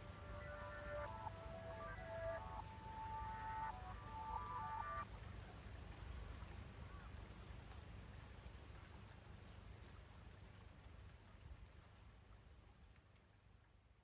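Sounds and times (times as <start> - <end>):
faint steady rain: 0.0 - 14.0.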